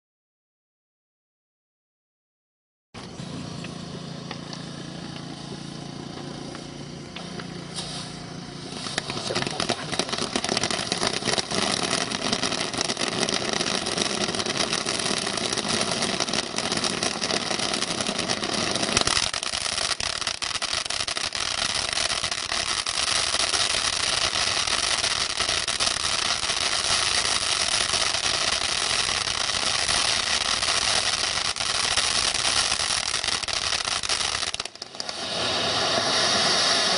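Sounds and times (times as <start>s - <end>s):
firework fountain hissing and crackling: 3.0s - 36.9s.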